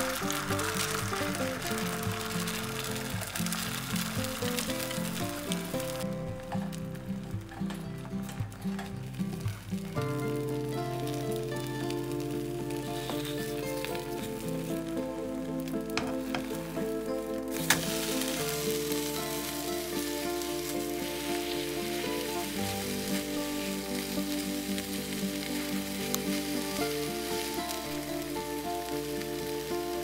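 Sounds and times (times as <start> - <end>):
egg and bread frying in a pan: 0.0 - 30.0
soft background music: 0.0 - 30.0.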